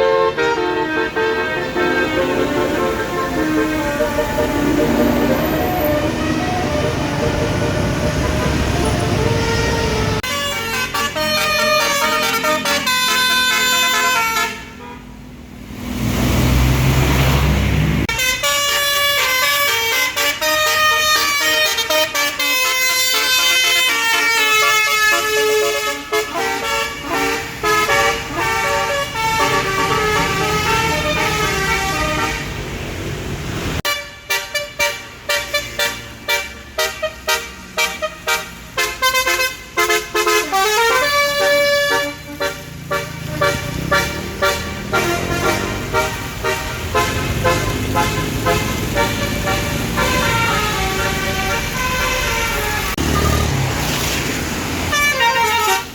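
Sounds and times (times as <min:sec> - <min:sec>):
bus air horn playing a tune: 0:00.0 - 0:15.1, 0:18.1 - 0:32.8, 0:33.8 - 0:53.6, 0:54.8 - 0:55.9.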